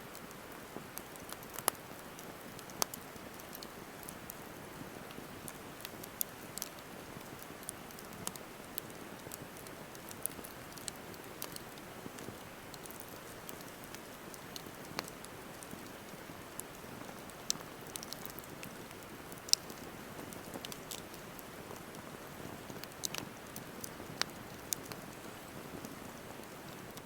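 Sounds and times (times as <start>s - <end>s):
fire crackling and popping: 0.0s - 27.0s
campfire hissing: 0.2s - 26.9s.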